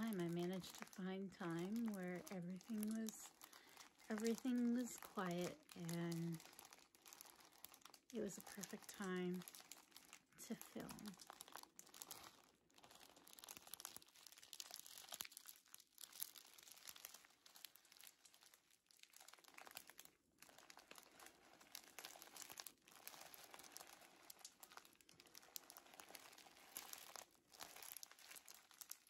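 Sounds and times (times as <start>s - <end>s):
tissue paper crinkling: 0.0s - 29.0s.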